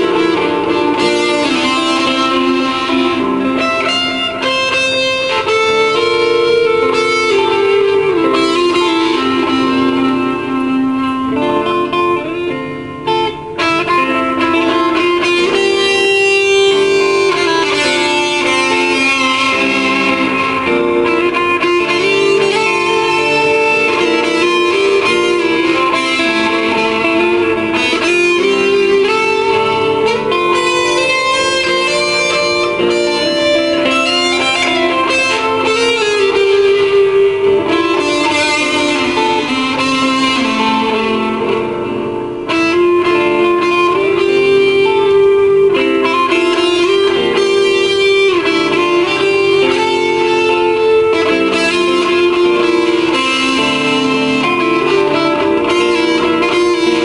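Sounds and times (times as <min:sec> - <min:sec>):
electric guitar improvising melodic lines: 0:00.0 - 0:57.0.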